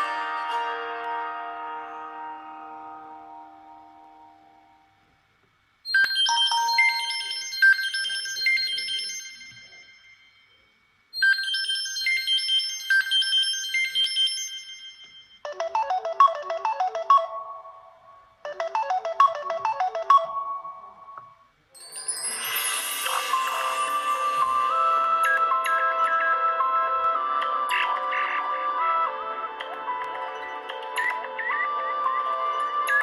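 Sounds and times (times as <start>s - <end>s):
chiming ringtone melody: 5.9s - 10.6s, 11.2s - 33.0s.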